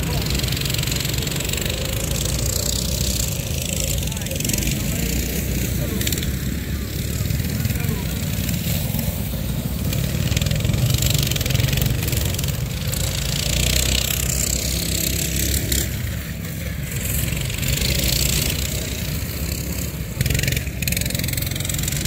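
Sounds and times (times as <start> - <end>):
small minibike engines racing: 0.0 - 22.0.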